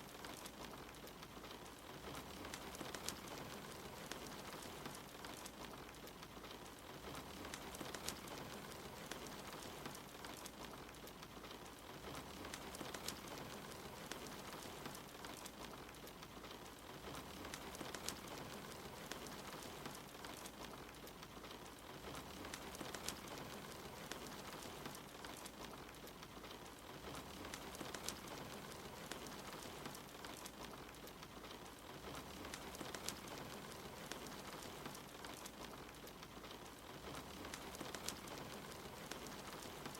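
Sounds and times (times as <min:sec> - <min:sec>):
steady rain patter: 0:00.0 - 0:39.9
wood fire crackling: 0:00.0 - 0:39.9.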